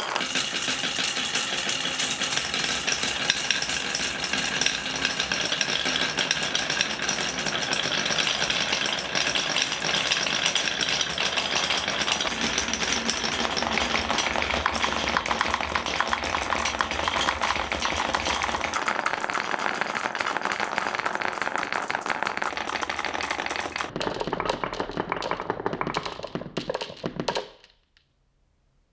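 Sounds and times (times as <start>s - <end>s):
marbles rattling down wooden run: 0.0s - 27.5s.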